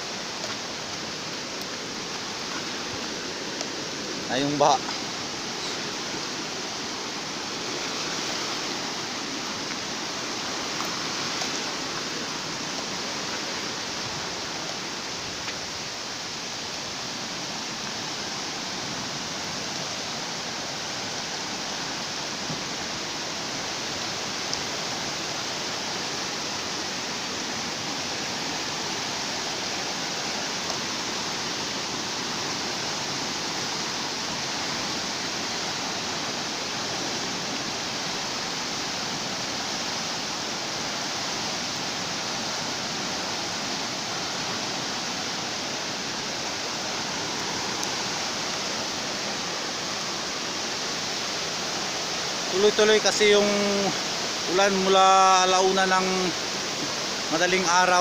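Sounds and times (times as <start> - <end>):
heavy rain: 0.0 - 58.0
rushing floodwater: 0.0 - 58.0.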